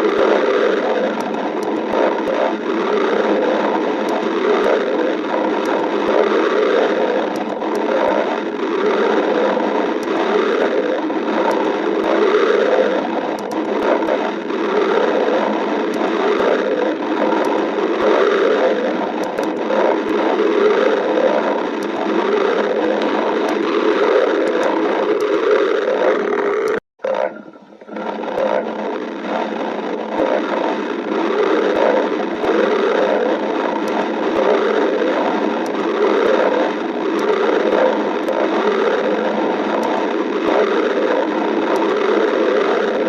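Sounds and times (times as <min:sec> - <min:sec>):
stomach gurgling and rumbling: 0:00.0 - 0:43.0.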